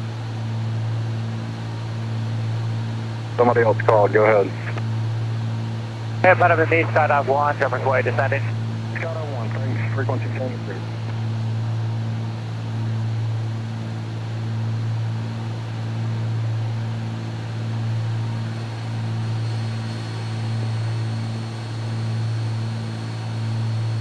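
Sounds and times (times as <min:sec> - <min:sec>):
propeller plane cabin drone: 0:00.0 - 0:24.0.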